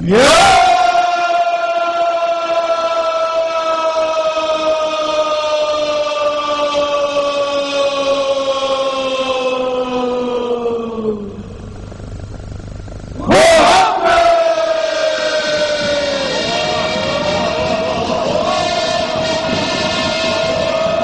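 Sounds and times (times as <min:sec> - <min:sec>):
men singing long unison note: 0:00.0 - 0:11.6, 0:13.2 - 0:21.0.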